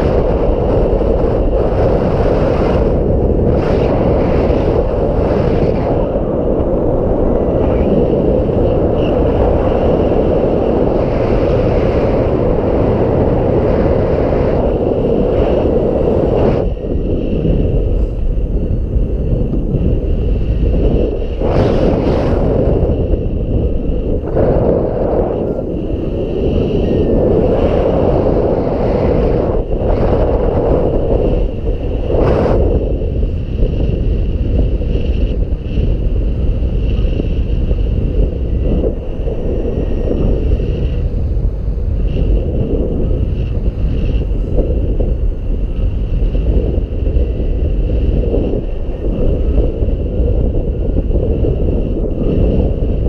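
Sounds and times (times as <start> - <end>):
gusting wind buffeting microphone: 0.0 - 53.0.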